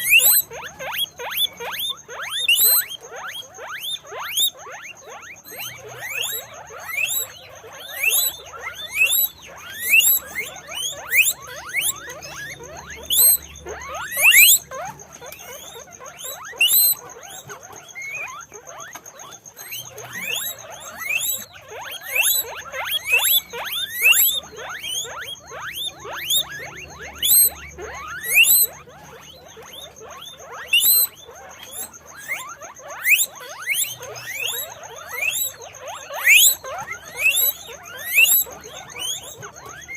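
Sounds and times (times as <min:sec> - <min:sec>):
guinea pigs squeaking: 0:00.0 - 0:39.9.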